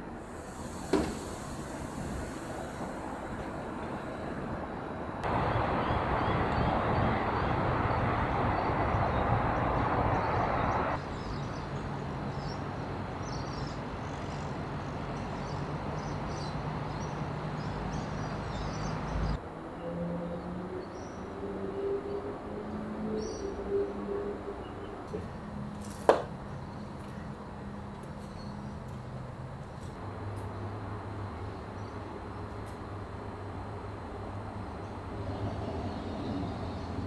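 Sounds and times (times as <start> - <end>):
loud rushing traffic noise: 0.0 - 37.0.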